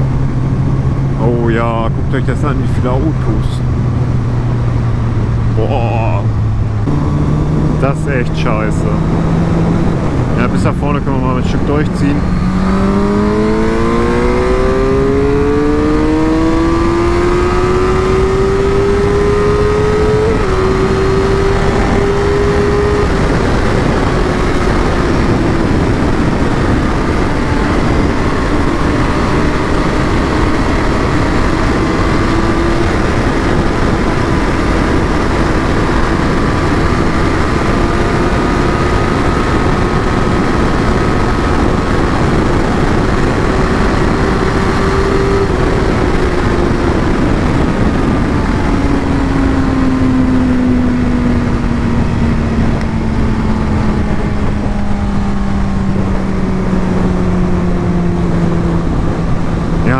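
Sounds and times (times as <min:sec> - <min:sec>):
heavy wind rush: 0:00.0 - 0:59.9
motorcycle engine at full throttle: 0:00.0 - 0:59.9.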